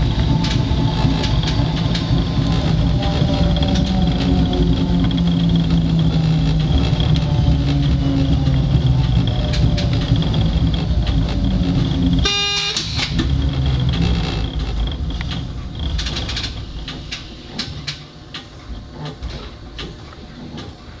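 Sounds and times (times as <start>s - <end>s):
train running on rails: 0.0s - 21.0s.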